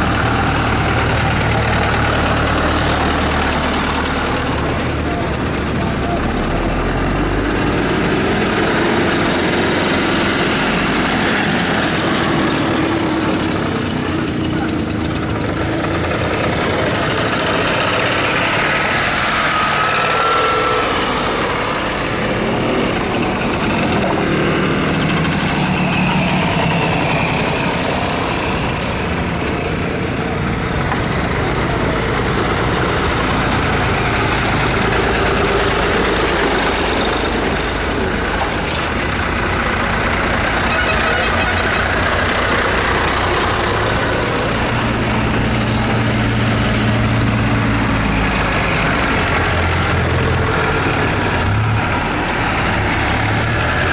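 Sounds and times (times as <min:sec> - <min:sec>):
tractor engines running: 0:00.0 - 0:53.9.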